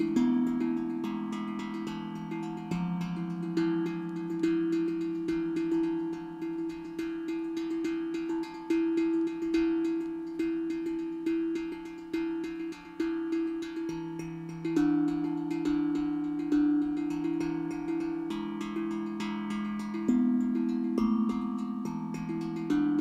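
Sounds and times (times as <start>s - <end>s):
steel tongue drum notes: 0.0s - 23.0s.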